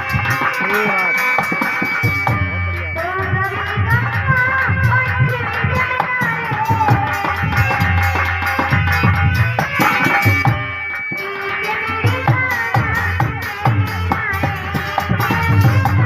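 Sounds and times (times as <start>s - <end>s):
hand drum beating fast rhythm: 0.0s - 16.0s
wavering melody line: 0.0s - 16.0s.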